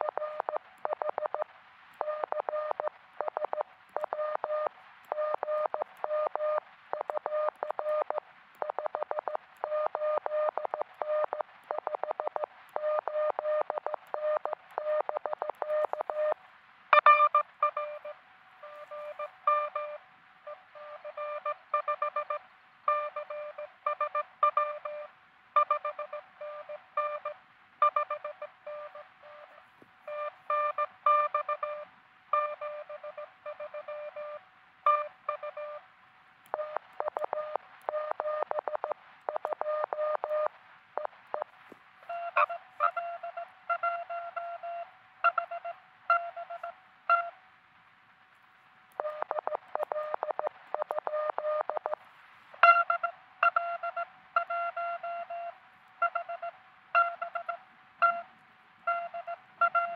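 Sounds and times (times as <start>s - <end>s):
morse code beeps: 0.0s - 16.4s, 17.0s - 35.8s, 36.5s - 47.4s, 49.0s - 52.0s, 52.6s - 58.3s, 58.9s - 59.9s
faint steady tone: 0.0s - 59.9s.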